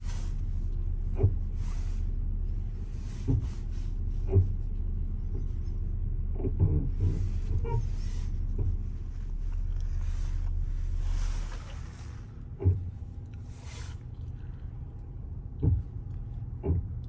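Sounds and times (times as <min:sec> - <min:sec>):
car engine drone: 0:00.0 - 0:17.0.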